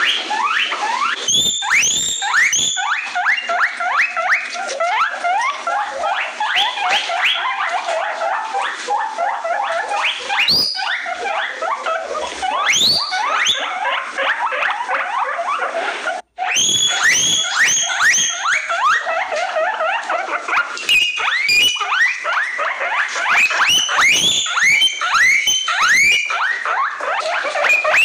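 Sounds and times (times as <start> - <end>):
guinea pig squealing: 0.0 - 28.0.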